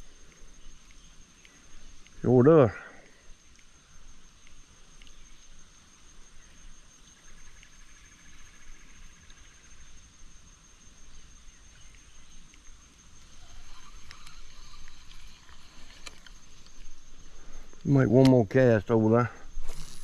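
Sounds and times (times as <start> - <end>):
insects droning: 0.0 - 20.0
rapid insect trill: 0.0 - 20.0.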